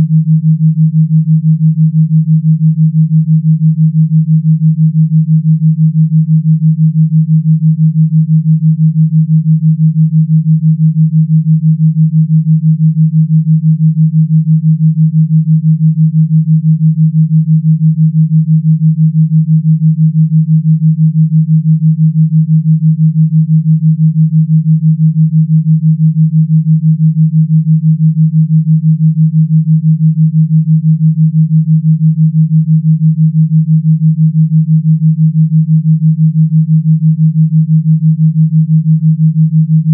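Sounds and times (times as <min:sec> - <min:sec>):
low pulsing pure tone: 0:00.0 - 0:39.9.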